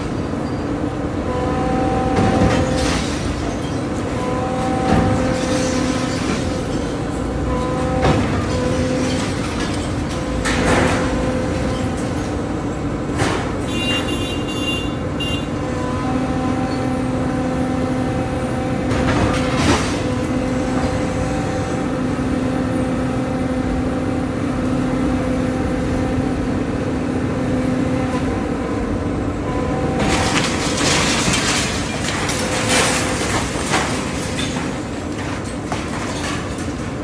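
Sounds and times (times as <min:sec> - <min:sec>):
demolition debris crunching: 0:00.0 - 0:37.0
excavator diesel engine: 0:00.0 - 0:37.0.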